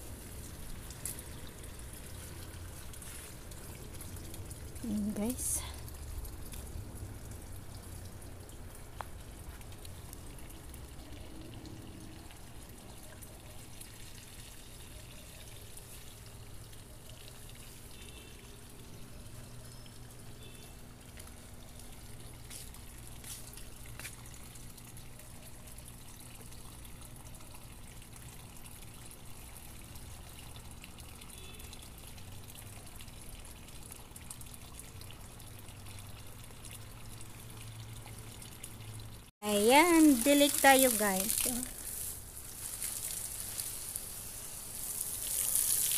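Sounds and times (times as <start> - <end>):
water pouring from hose: 0.0 - 45.9.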